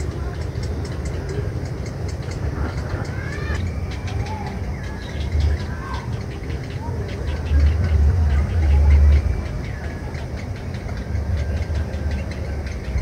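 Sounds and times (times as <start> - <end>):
bird ticking chirps: 0.0 - 13.0
steady low rumble: 0.0 - 13.0.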